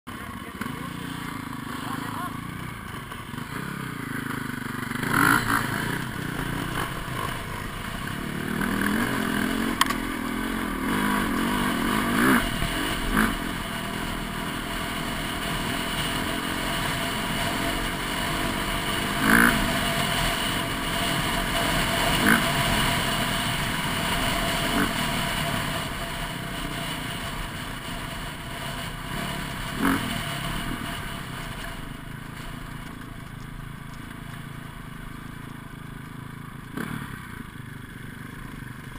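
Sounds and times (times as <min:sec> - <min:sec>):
dirt bike engine revving: 0:00.1 - 0:38.9.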